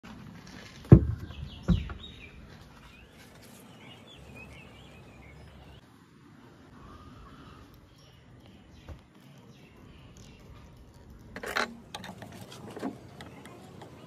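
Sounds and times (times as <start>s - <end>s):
birds chirping: 0.9s - 14.0s.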